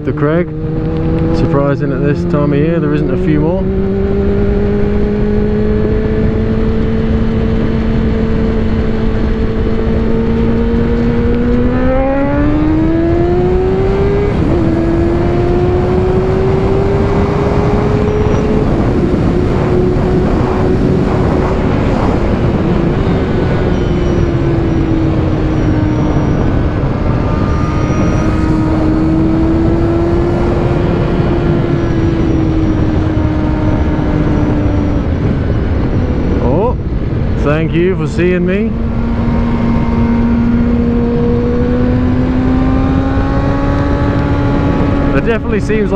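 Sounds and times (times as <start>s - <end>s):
motorcycle engine revving: 0.0s - 45.9s
wind rush: 0.0s - 45.9s.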